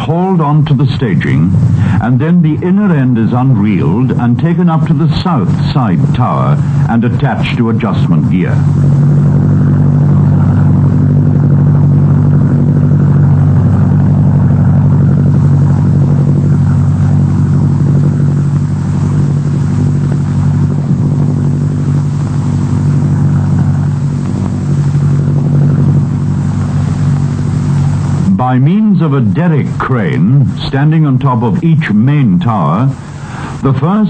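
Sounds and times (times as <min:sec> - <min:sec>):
machinery engine drone: 0:00.0 - 0:34.0.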